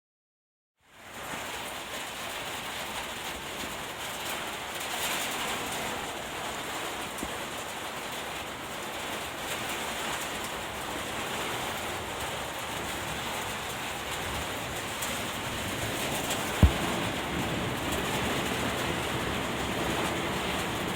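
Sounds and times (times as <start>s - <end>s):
rain falling: 0.9s - 20.9s.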